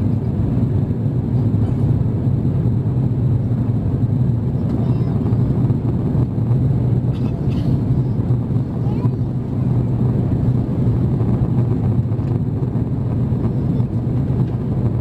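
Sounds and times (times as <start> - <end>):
airflow rushing past fuselage: 0.0 - 15.0
low drone of jet engines: 0.0 - 15.0.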